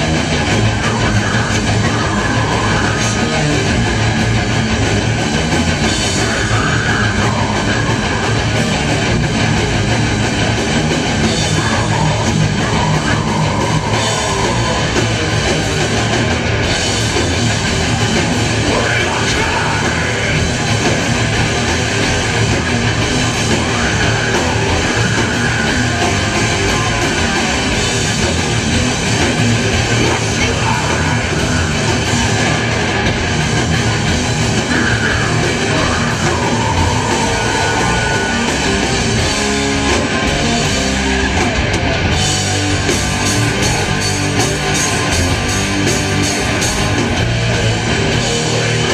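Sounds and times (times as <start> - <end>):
heavy metal band playing live: 0.0 - 48.9.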